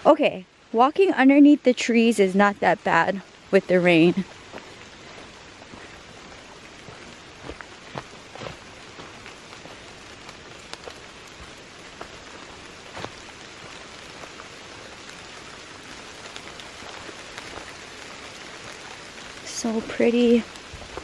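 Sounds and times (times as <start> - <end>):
steady rain through trees: 0.0 - 21.0
sharp taps of raindrops: 4.1 - 21.0.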